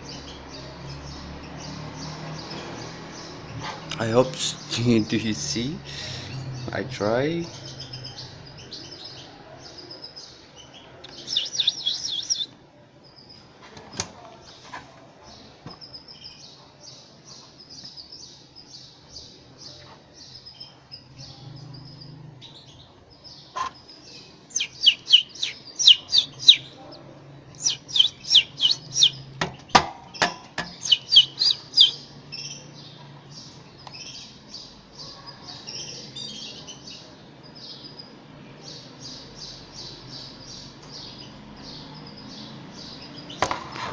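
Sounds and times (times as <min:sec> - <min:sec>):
canary chicks cheeping: 0:00.0 - 0:43.9.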